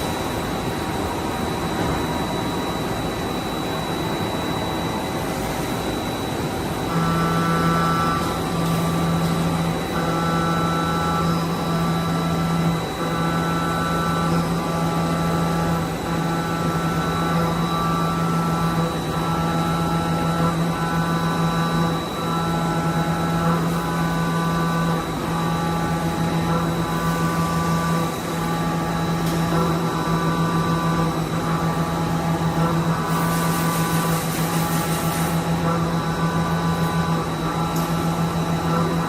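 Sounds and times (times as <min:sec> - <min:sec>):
machine hum with high whine: 0:00.0 - 0:39.0.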